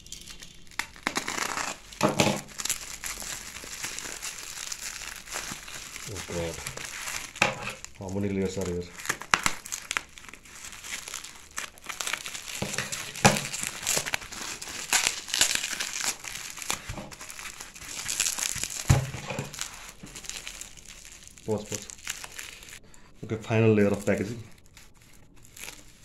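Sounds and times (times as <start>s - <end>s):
scissors cutting bubble wrap: 0.0s - 22.8s, 23.8s - 26.0s
bubble wrap crinkling: 0.0s - 26.0s.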